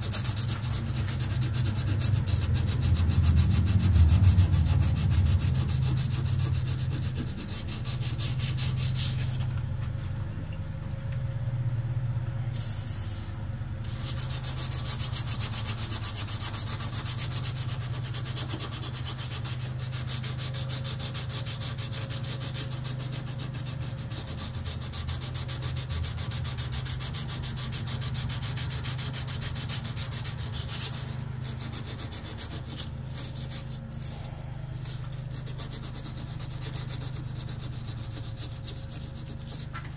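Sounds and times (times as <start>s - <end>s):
sandpaper rubbing on steel blade: 0.0s - 9.5s, 13.9s - 39.9s
steady low hum: 0.0s - 39.9s.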